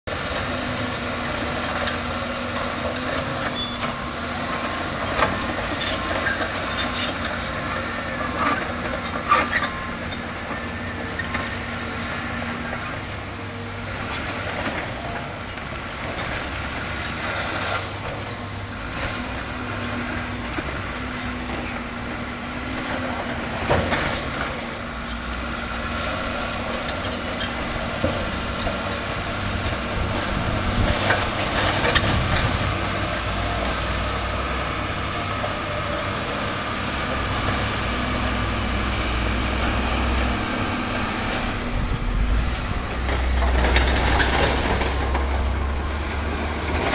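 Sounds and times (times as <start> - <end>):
diesel engines working: 0.1 - 46.9.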